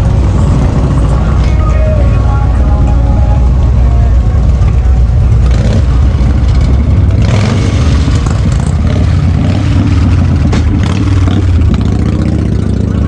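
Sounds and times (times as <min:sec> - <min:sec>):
motorcycle engines running: 0:00.0 - 0:13.0
street traffic: 0:00.0 - 0:13.0.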